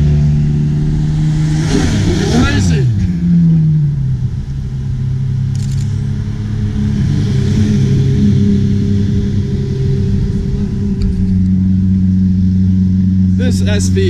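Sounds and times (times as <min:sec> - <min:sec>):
sports car engine idling: 0:00.0 - 0:06.7, 0:09.0 - 0:14.0.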